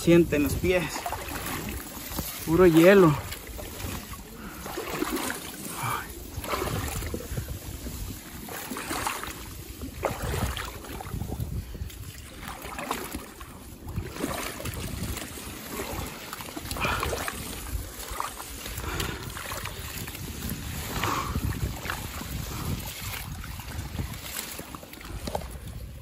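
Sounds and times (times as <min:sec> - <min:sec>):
wading through shallow water: 0:00.0 - 0:26.0.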